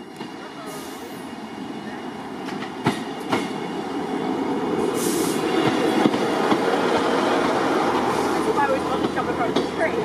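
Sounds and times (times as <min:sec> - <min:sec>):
diesel train rumbling past: 0:00.0 - 0:10.0.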